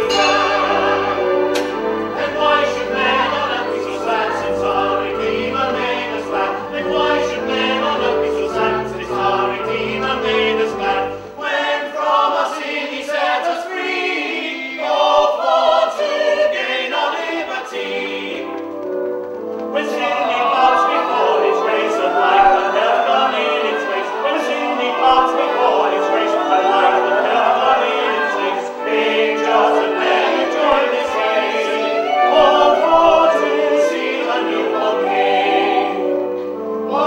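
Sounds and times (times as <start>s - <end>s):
low instrumental accompaniment: 0.0s - 11.4s, 17.9s - 37.0s
choir singing: 0.0s - 37.0s.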